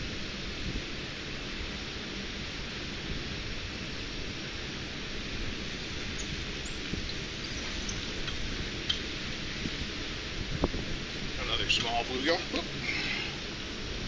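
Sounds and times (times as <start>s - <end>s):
rushing water hiss: 0.0s - 14.0s.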